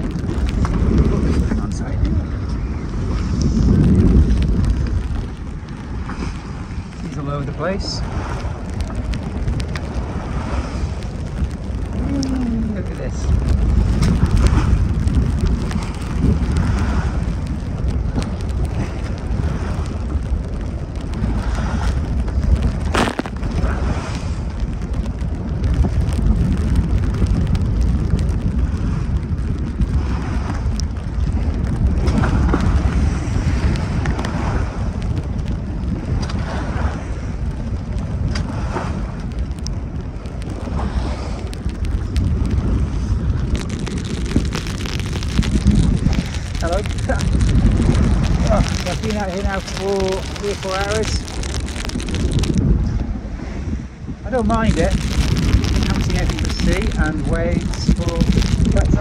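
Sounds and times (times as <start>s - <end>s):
waves breaking along hull: 0.0s - 59.0s
wind buffeting microphone: 0.0s - 59.0s.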